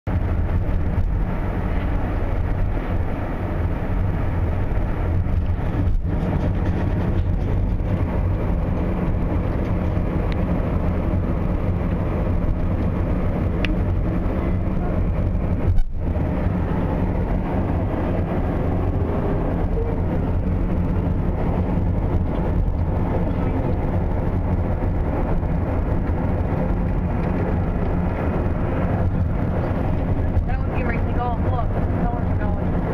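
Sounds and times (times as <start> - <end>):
car road and engine noise: 0.0 - 32.9.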